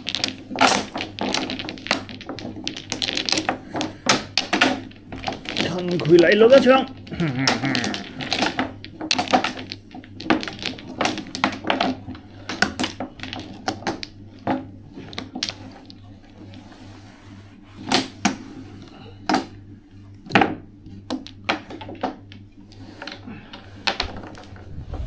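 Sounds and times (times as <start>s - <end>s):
tiles clacking on a table: 0.0s - 16.9s, 20.3s - 25.0s
steady low hum: 0.0s - 25.0s.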